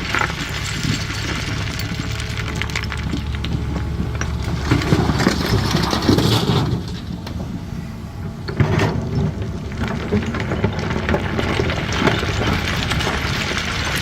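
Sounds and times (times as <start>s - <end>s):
stones rattling and scraping: 0.0s - 7.1s, 8.5s - 14.0s
excavator diesel engine running: 0.0s - 14.0s.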